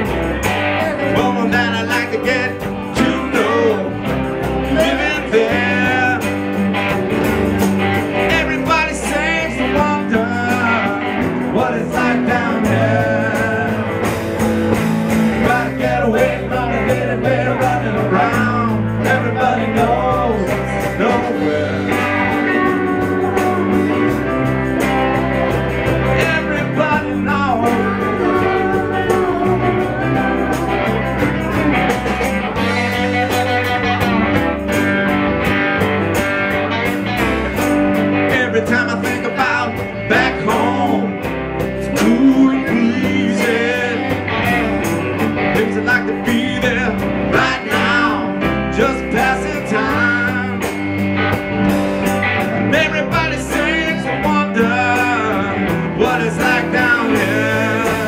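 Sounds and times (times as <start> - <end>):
electric guitars: 0.0 - 58.0
keyboard: 0.0 - 58.0
steady drum beat: 0.0 - 58.0
person singing: 0.4 - 6.5, 8.2 - 14.2, 15.4 - 34.2, 38.3 - 44.8, 45.5 - 50.8, 52.6 - 58.0.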